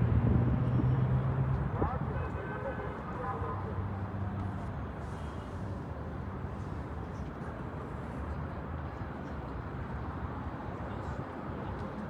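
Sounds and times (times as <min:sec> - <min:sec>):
distant city traffic hum: 0:00.0 - 0:12.0.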